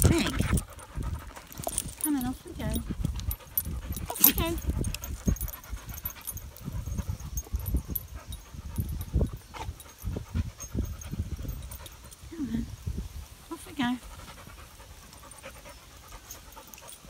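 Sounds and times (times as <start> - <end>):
dogs panting: 0.0 - 12.4, 13.6 - 17.0.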